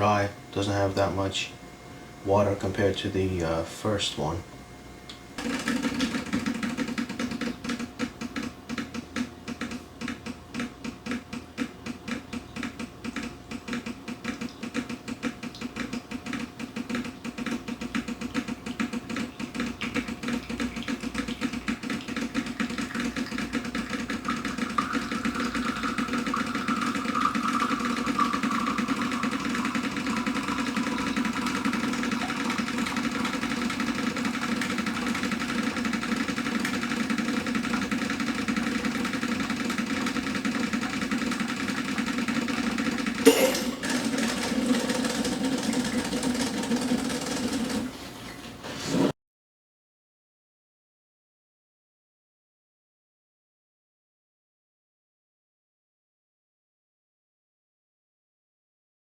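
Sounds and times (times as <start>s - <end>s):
espresso machine pump running: 0.0s - 49.1s.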